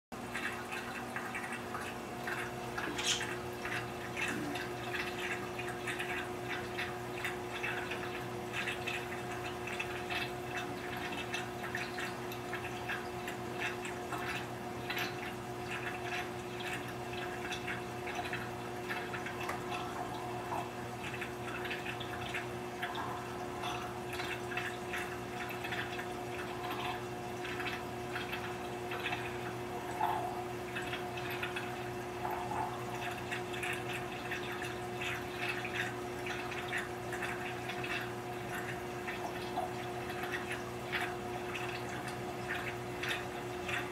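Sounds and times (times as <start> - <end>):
pump humming: 0.2 - 43.9
water trickling and dripping: 0.2 - 43.9
small water splashes: 0.3 - 43.9.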